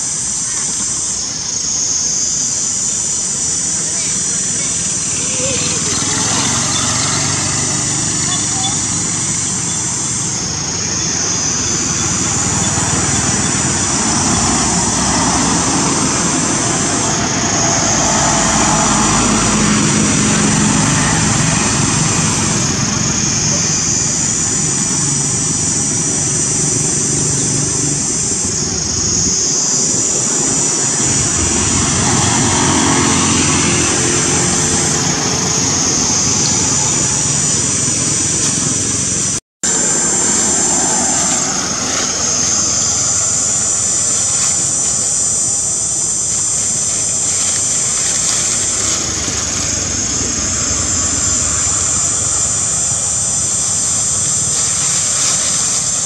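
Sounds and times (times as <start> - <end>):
loud drone: 0.0 - 56.0
shrill buzzing: 0.0 - 56.0.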